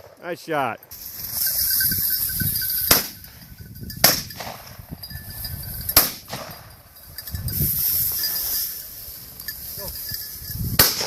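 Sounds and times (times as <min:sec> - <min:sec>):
high rustling hiss: 0:00.9 - 0:11.0.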